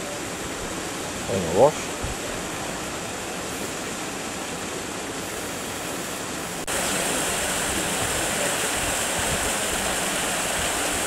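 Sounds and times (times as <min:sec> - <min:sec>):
small waterfall splashing over rocks: 0:00.0 - 0:11.0
water hissing: 0:00.0 - 0:11.0.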